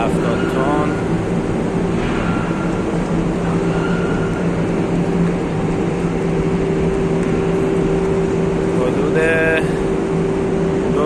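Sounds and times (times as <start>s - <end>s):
industrial machinery drone: 0.0s - 11.0s
low two-tone hum: 0.0s - 11.0s.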